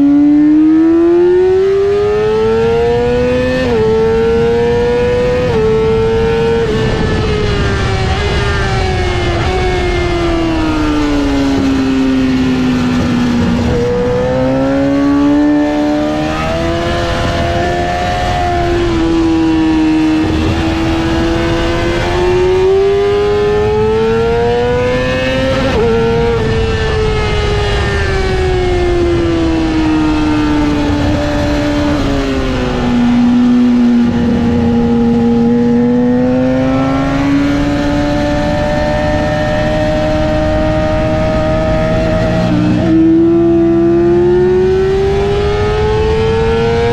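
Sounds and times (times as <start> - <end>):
motorcycle engine running hard: 0.0 - 46.9.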